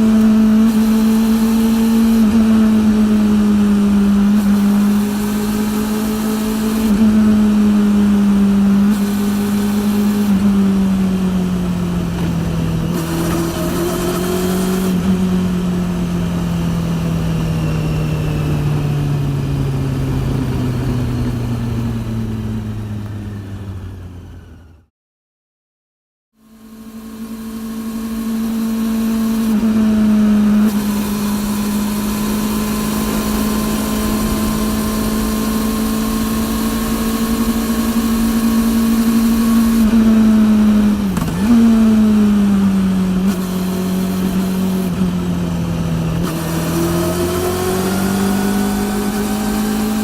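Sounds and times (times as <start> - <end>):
motorcycle engine running: 0.0 - 24.9, 26.4 - 50.0.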